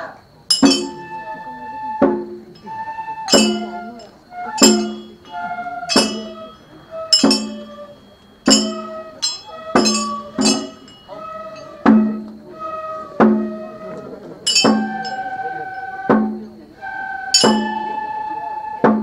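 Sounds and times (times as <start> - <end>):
metallic percussion clinks: 0.5 - 12.5, 14.2 - 16.7, 17.3 - 18.1
held melody line: 0.5 - 18.8.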